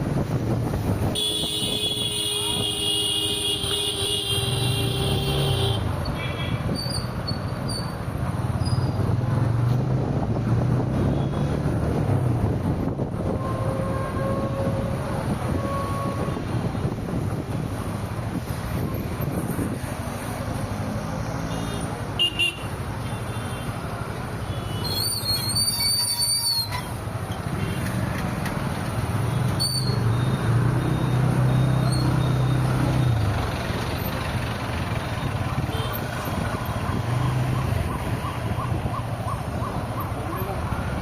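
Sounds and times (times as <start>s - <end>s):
road and engine noise: 0.0s - 41.0s.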